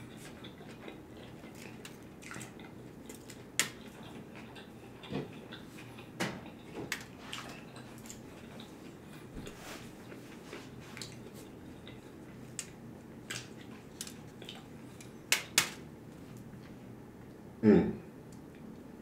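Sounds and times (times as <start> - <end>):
chewing with wet mouth sounds: 0.0 - 15.6.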